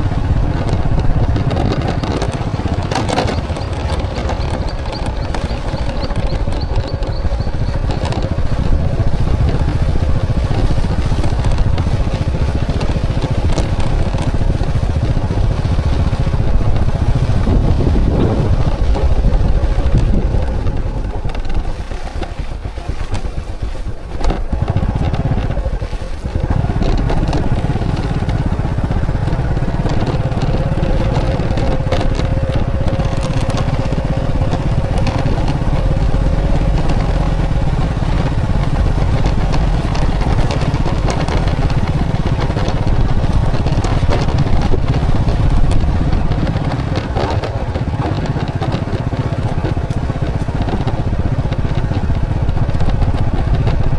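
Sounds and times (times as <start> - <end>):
motorcycle engine rumbling: 0.0 - 53.9.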